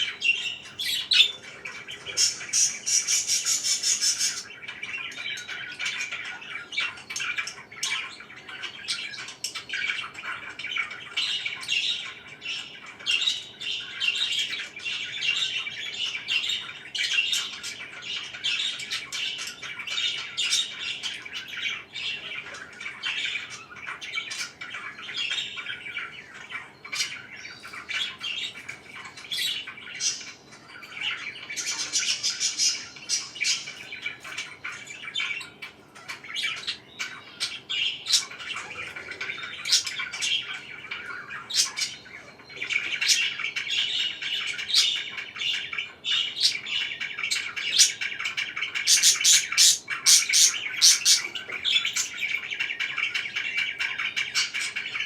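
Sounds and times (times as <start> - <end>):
parakeet squawks: 0.0 - 55.0
parakeets chirping and chattering: 0.0 - 55.0.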